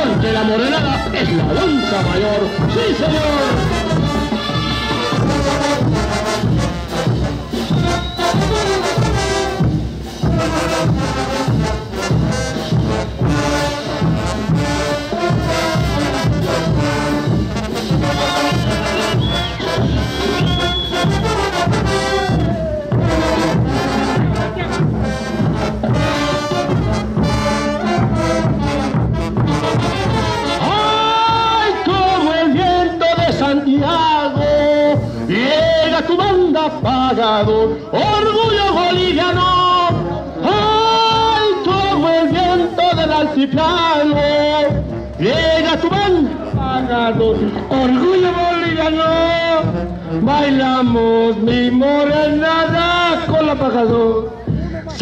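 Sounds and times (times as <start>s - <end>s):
brass band playing: 0.0s - 55.0s
steady drum beat: 0.0s - 55.0s.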